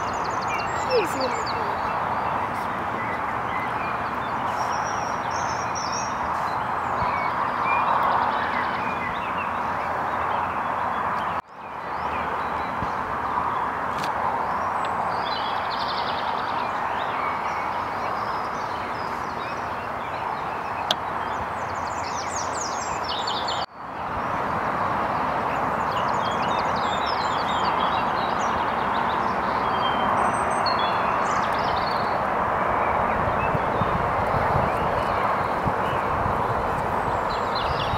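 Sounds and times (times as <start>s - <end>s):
songbirds chirping: 0.0s - 37.9s
steady background noise: 0.0s - 37.9s.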